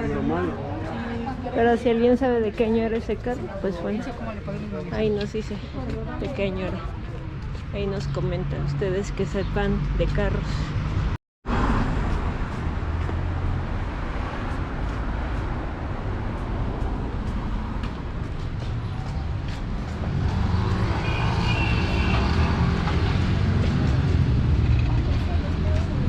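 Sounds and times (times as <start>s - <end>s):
city traffic rumble: 0.0s - 26.0s.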